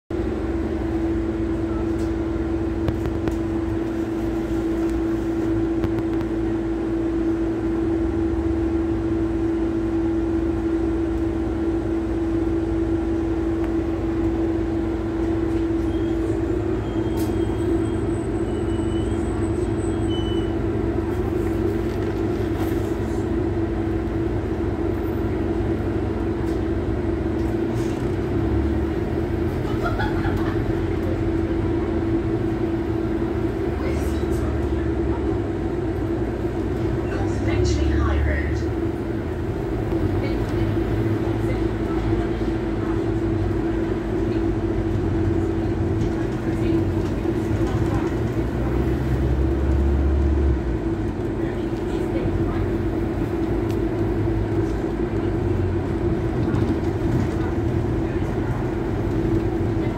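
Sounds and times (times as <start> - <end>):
bus engine humming: 0.1 - 59.9.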